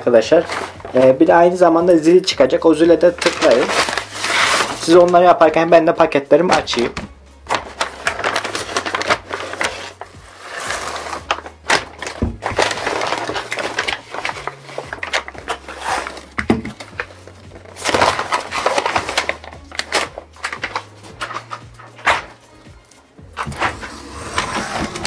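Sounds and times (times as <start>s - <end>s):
paper bags rustling: 0.0s - 5.6s, 6.5s - 25.0s
background music with bass: 0.0s - 25.0s.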